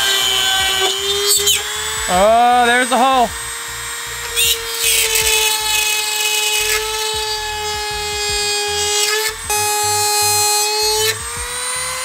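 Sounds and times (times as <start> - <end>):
power tool high whine: 0.0 - 12.0.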